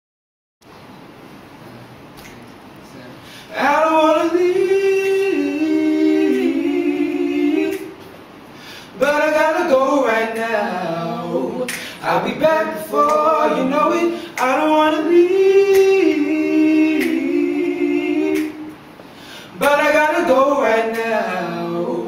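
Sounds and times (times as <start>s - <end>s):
men singing a cappella: 3.4s - 22.0s.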